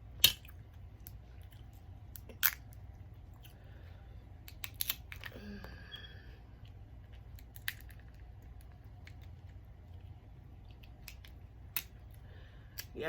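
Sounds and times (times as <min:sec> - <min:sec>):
low hum: 0:00.0 - 0:13.0
soft chewing and squishing: 0:00.2 - 0:05.4, 0:06.5 - 0:12.9.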